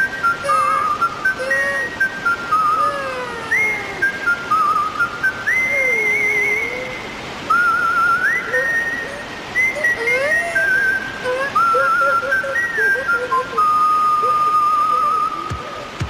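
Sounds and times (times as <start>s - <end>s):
person whistling a tune: 0.0s - 15.9s.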